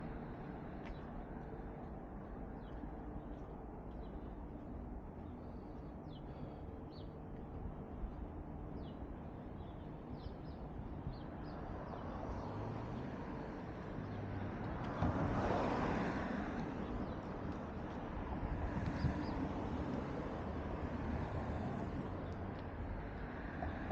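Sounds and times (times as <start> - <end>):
street traffic rumbling: 0.0 - 23.9.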